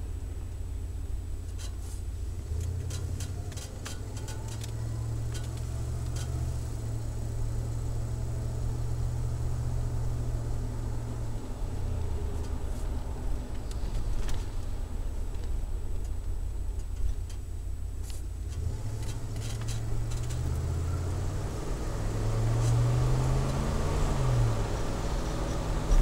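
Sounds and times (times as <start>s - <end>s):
engine exhaust drone: 0.0s - 26.0s.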